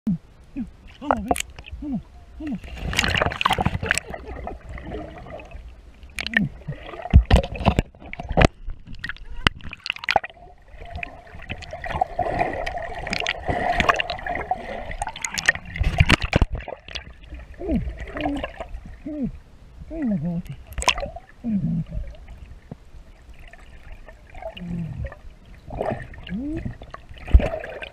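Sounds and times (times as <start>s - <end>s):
water splashing and gurgling: 0.6s - 27.9s.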